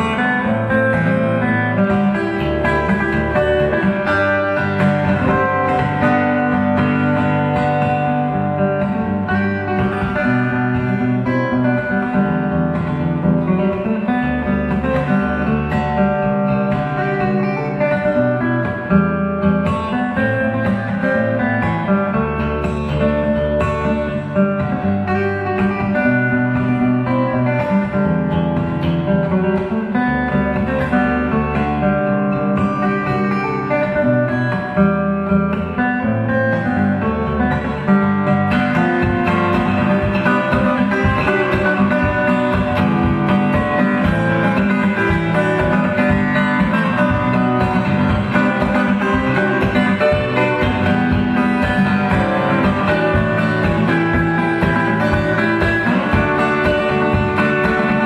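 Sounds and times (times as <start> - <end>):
fingerstyle acoustic guitar: 0.0 - 58.0.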